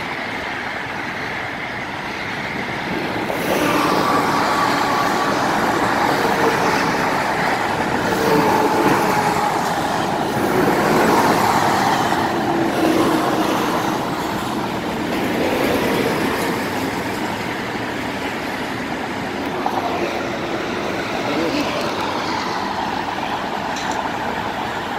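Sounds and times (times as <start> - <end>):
busy freeway traffic: 0.0 - 24.9.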